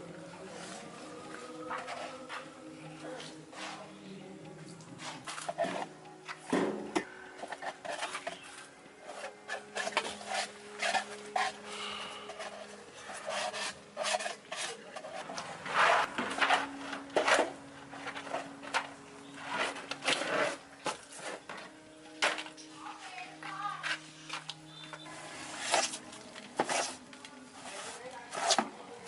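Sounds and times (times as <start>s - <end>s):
rough rasping strokes: 0.4s - 4.0s, 7.4s - 28.8s.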